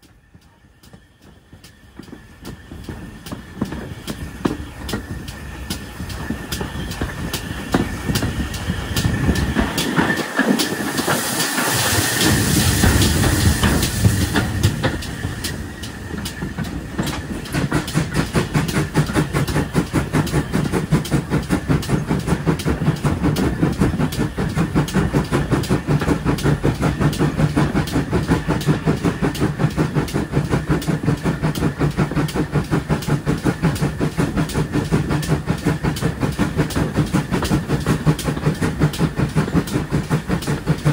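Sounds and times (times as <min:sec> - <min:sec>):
steam hissing: 0:00.0 - 0:40.9
steam locomotive chuffing beats: 0:00.0 - 0:40.9.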